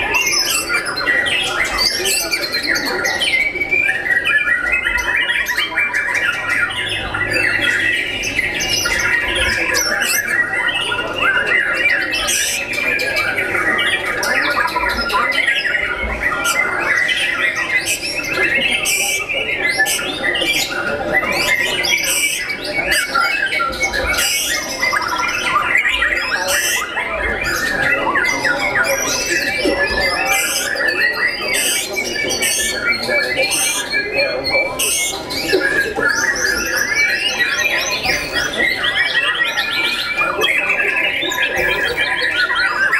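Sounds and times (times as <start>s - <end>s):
bird singing whistles and warbles: 0.0s - 42.9s
caged songbirds singing: 0.0s - 42.9s.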